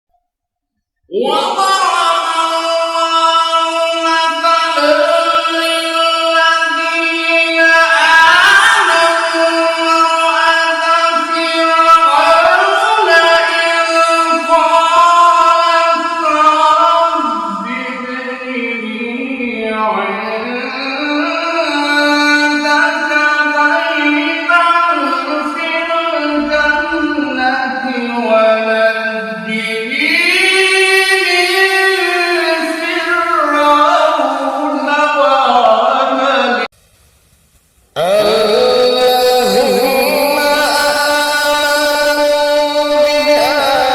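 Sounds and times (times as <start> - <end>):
person chanting a recitation: 1.1 - 36.7, 38.0 - 43.9.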